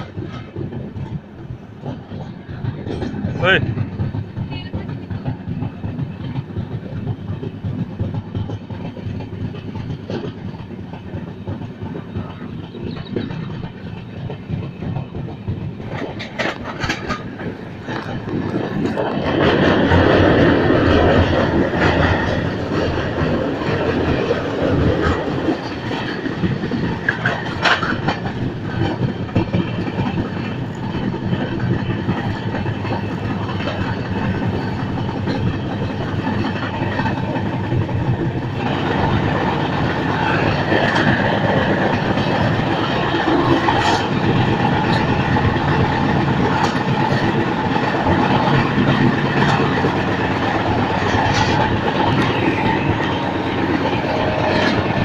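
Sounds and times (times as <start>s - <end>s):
train wheels rumbling and rattling: 0.0s - 55.0s.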